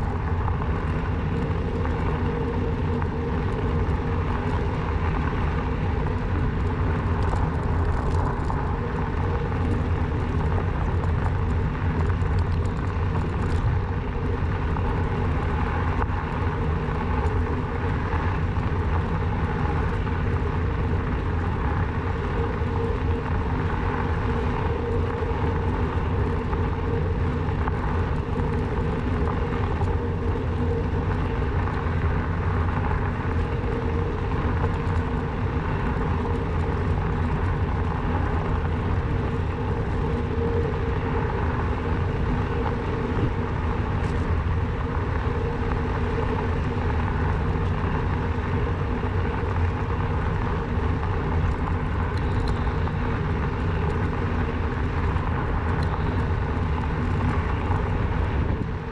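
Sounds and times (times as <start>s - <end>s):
electric bike motor hum: 0.0s - 58.9s.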